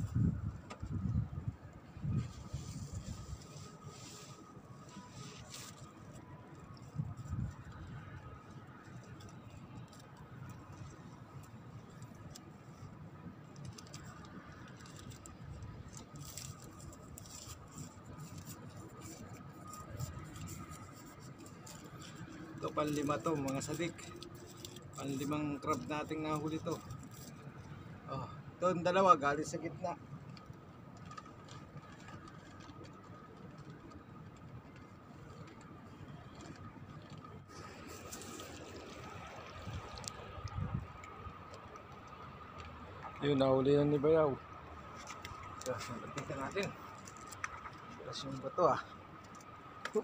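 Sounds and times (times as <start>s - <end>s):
distant city hum: 0.0s - 50.0s.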